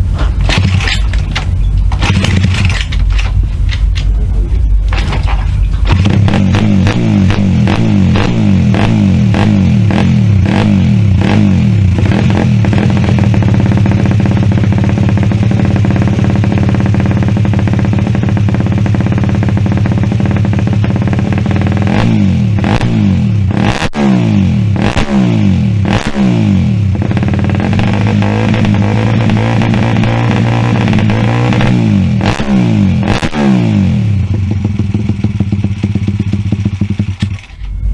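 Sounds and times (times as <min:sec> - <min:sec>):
minibike engine revving: 0:05.8 - 0:37.9.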